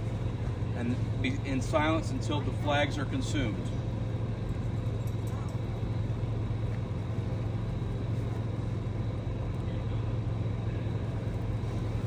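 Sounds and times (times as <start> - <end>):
low motor hum and rumble: 0.0 - 12.0.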